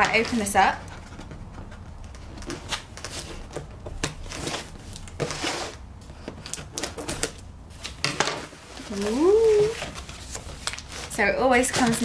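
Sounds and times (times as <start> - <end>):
tape and cardboard crackling: 0.0 - 12.0.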